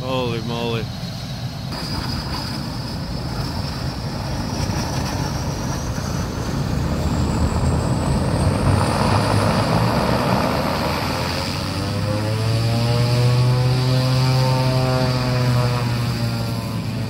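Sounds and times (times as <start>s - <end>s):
propeller drone: 0.0s - 17.0s
turbine whine rising in pitch: 0.0s - 17.0s.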